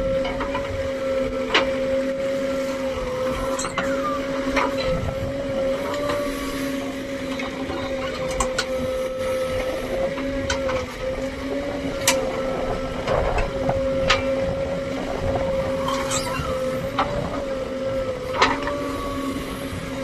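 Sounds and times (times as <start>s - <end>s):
backhoe diesel engine: 0.0s - 20.0s
hydraulics whining: 0.0s - 20.0s.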